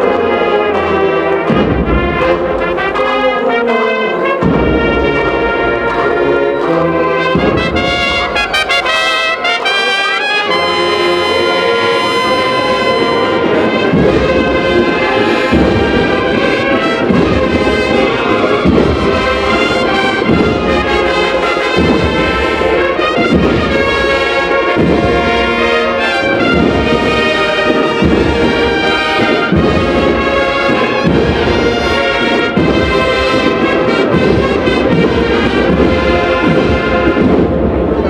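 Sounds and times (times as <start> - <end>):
brass band playing a march: 0.0 - 38.0
steady drum beat: 0.0 - 38.0.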